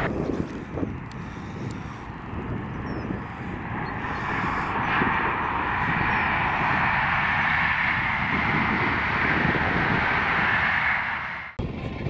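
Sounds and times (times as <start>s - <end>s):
diesel train passing: 0.0s - 11.8s.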